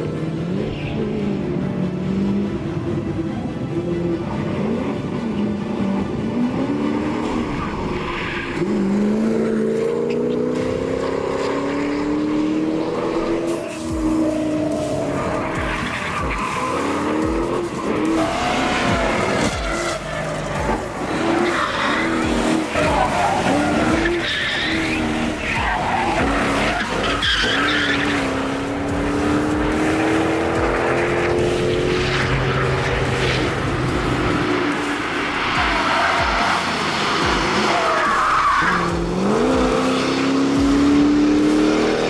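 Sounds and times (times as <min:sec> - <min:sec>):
car engine revving: 0:00.0 - 0:42.0
tyres skidding and squealing: 0:00.0 - 0:42.0.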